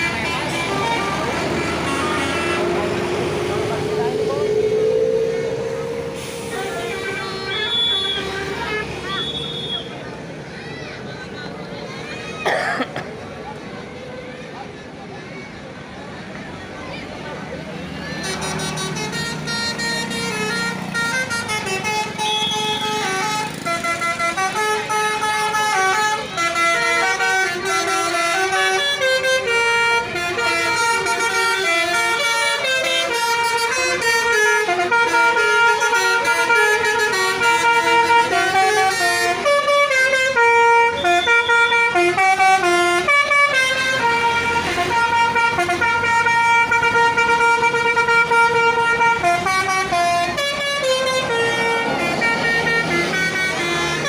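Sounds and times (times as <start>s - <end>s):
multi-tone air horn tune: 0.0s - 9.9s, 18.3s - 54.0s.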